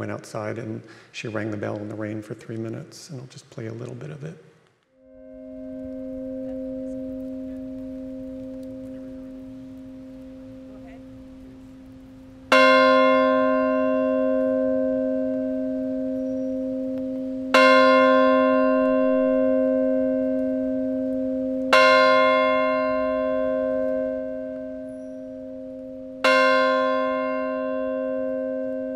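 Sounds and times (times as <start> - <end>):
large church bell tolling: 5.1 - 28.9.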